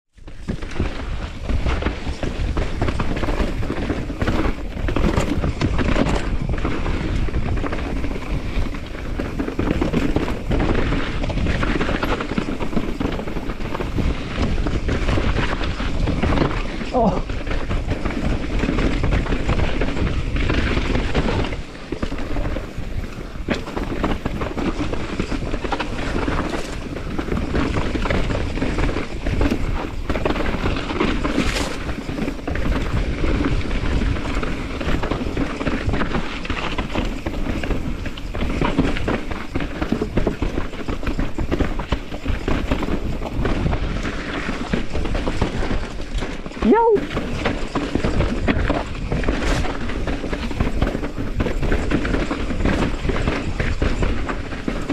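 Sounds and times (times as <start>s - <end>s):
bike rattling: 0.1s - 54.9s
wind noise: 0.1s - 54.9s
tyres crunching over stones: 0.2s - 54.9s.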